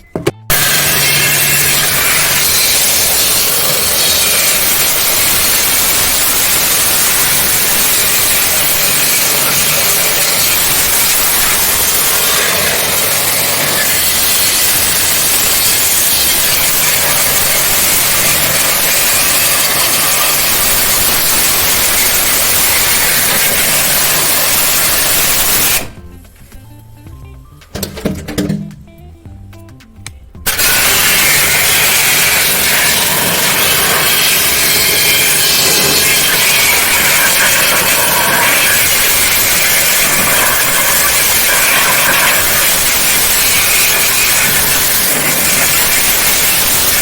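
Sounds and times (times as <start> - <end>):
high-pressure water spray hissing: 0.5 - 26.0, 30.5 - 47.0.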